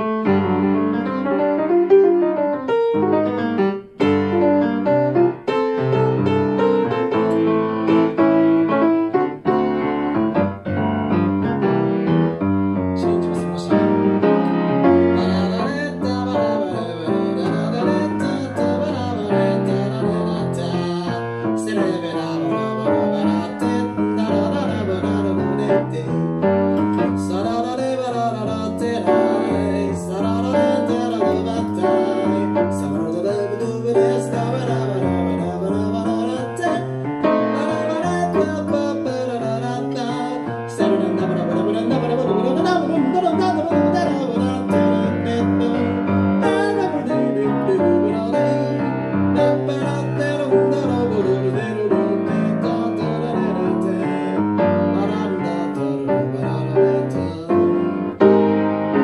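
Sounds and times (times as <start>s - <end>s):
jazz piano: 0.0s - 59.0s
person singing: 11.4s - 59.0s.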